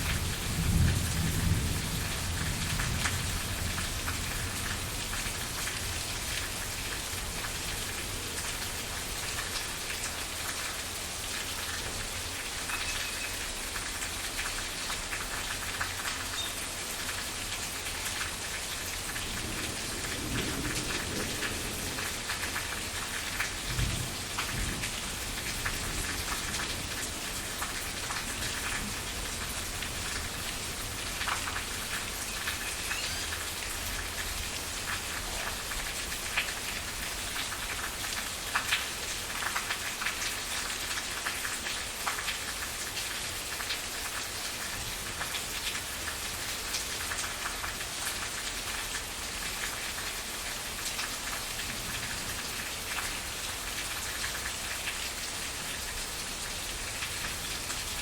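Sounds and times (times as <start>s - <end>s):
raindrops striking close by: 0.0s - 58.0s
steady rain falling: 0.0s - 58.0s.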